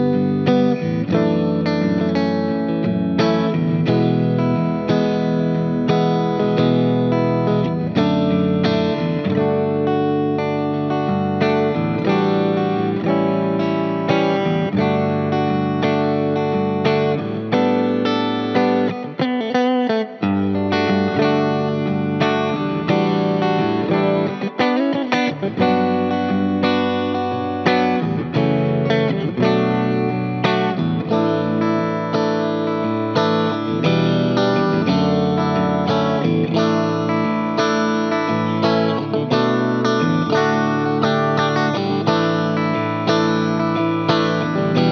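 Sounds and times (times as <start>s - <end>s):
backing track: 0.0s - 44.9s
electric guitar solo: 0.0s - 44.9s.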